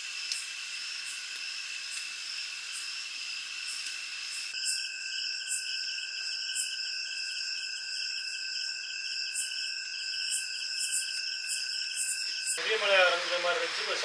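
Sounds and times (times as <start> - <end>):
insect trills: 0.0 - 14.0
sharp insect chirp: 0.0 - 14.0.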